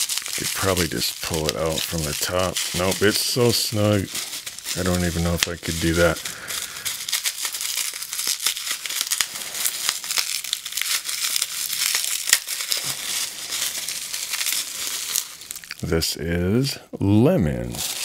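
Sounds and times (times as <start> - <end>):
bubble wrap crinkling: 0.0 - 16.2, 17.5 - 18.0.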